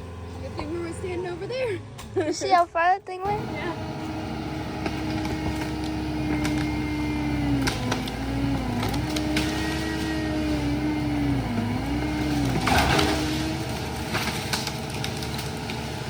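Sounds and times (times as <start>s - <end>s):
machine engine running: 0.0s - 2.2s, 3.2s - 16.0s.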